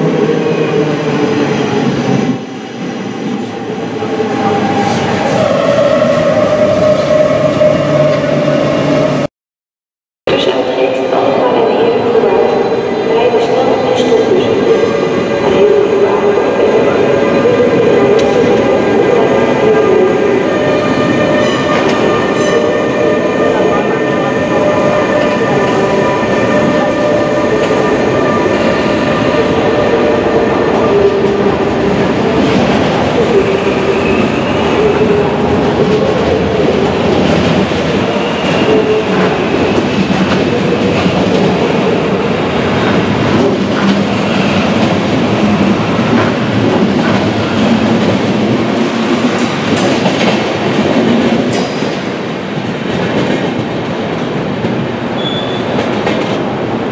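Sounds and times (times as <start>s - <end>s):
train coaches rumbling over rails: 10.3s - 56.9s.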